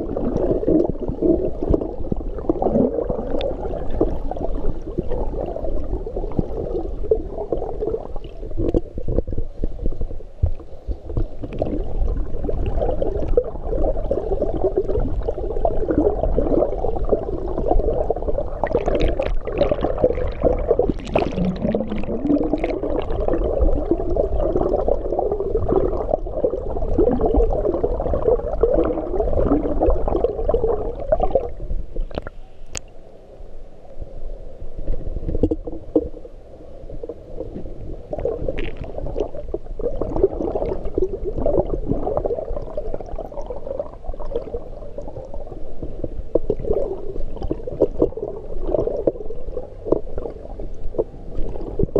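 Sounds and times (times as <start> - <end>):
underwater swimming strokes: 0.0 - 32.9, 34.7 - 51.9.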